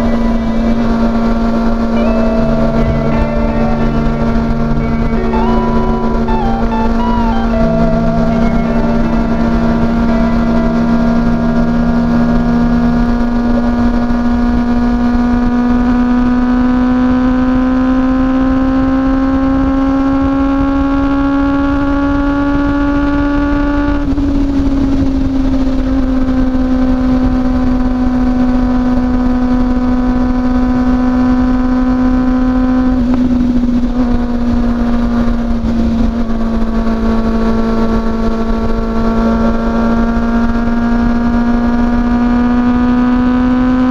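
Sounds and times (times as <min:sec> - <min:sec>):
motorcycle engine at highway speed: 0:00.0 - 0:43.9.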